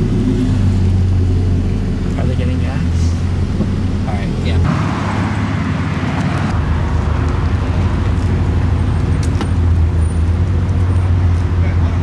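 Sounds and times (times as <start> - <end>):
car engine droning at low revs: 0.0 - 12.0.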